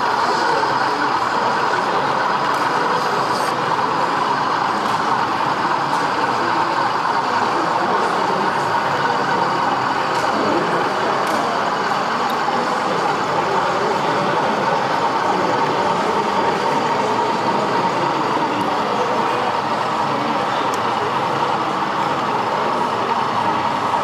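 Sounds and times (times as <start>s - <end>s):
model locomotive diesel engine: 0.0s - 24.0s.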